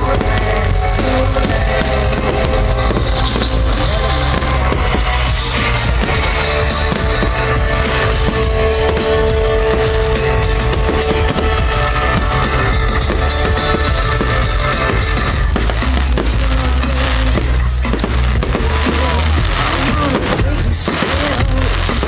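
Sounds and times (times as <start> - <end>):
loud rock music: 0.0 - 22.0.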